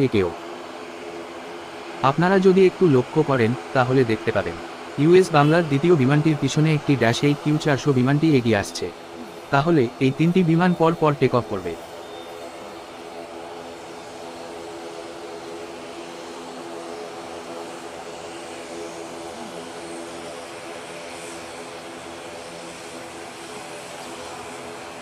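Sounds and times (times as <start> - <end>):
turboprop engines droning: 0.0 - 25.0.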